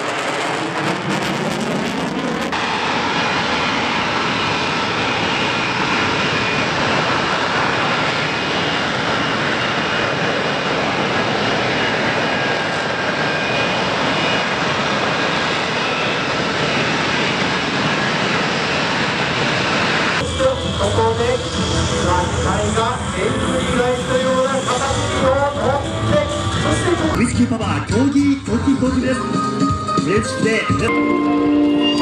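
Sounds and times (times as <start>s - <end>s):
fighter jet engine roar: 0.0s - 32.0s.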